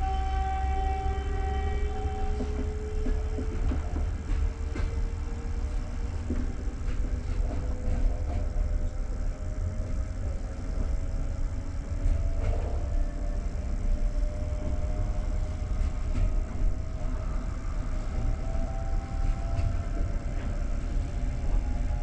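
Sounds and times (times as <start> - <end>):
train rumble inside coach: 0.0 - 22.0.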